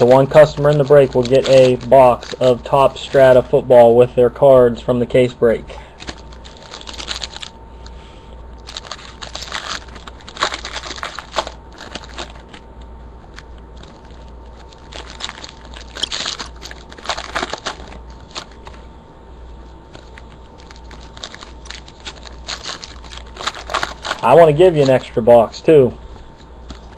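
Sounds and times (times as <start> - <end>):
card wrappers crinkling: 0.0 - 3.8, 5.9 - 7.9, 8.6 - 18.9, 19.6 - 25.6, 26.2 - 26.9.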